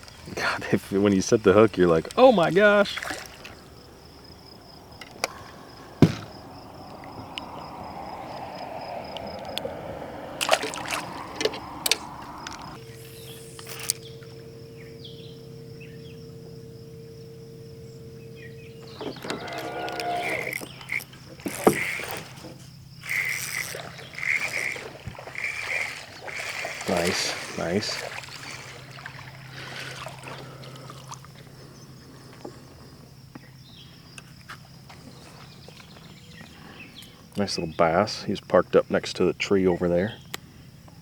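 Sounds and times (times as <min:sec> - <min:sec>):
steady hum: 0:00.0 - 0:32.9
water noise: 0:00.0 - 0:33.2.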